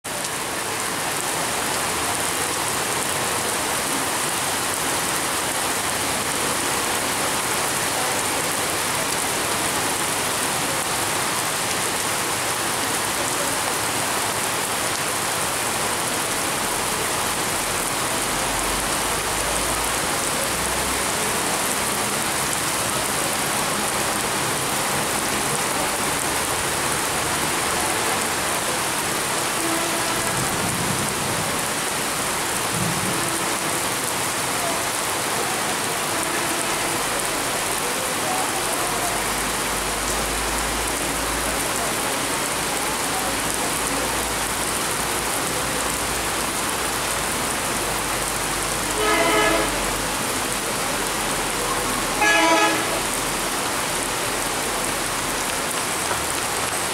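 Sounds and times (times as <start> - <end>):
heavy rain on concrete: 0.0 - 56.9.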